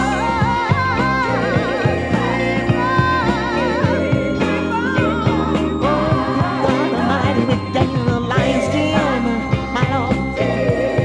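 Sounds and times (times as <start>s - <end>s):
gospel band accompaniment: 0.0s - 11.0s.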